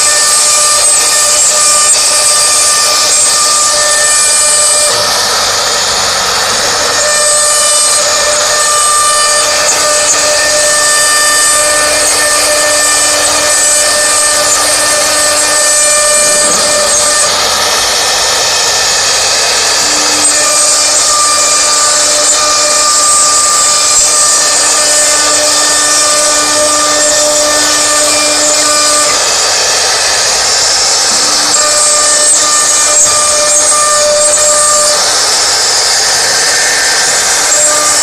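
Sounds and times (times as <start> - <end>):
hiss of wood cutting: 0.0 - 38.0
router spindle whining: 0.0 - 38.0.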